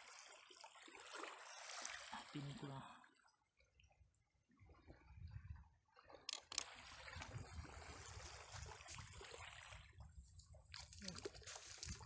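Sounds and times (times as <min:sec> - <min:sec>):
water lapping at shoreline: 0:00.0 - 0:12.0.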